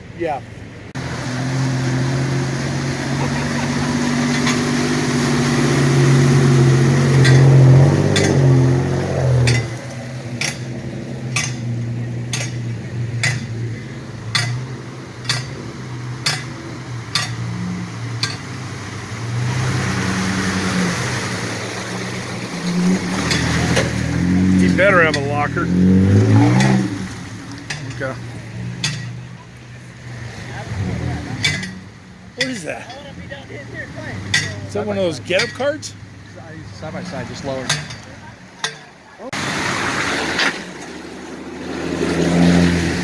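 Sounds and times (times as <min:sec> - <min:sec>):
vehicle engine running: 0:00.6 - 0:43.0.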